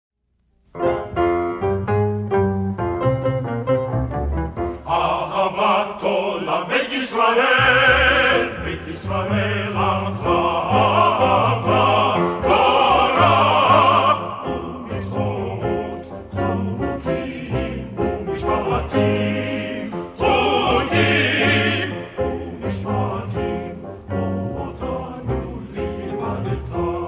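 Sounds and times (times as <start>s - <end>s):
piano and ensemble accompaniment: 0.7s - 5.2s, 7.5s - 27.0s.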